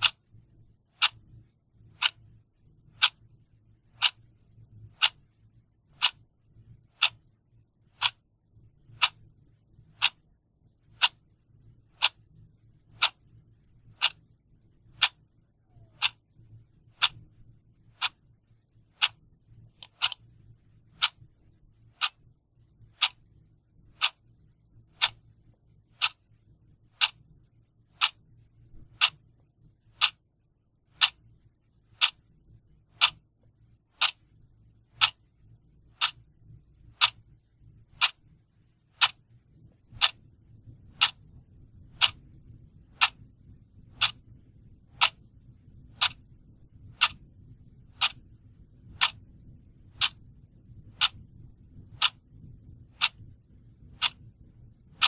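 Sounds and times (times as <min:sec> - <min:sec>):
clock ticking: 0:00.0 - 0:05.3, 0:05.9 - 0:11.3, 0:11.9 - 0:27.3, 0:27.9 - 0:30.3, 0:30.9 - 0:31.3, 0:31.9 - 0:32.3, 0:32.9 - 0:33.3, 0:34.0 - 0:35.3, 0:35.9 - 0:37.3, 0:37.9 - 0:55.0
faint low hum: 0:00.0 - 0:55.0.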